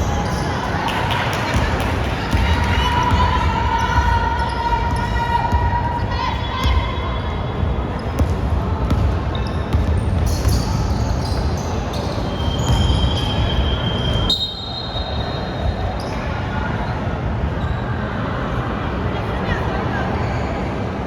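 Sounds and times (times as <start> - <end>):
crowd and court noise: 0.0 - 21.0.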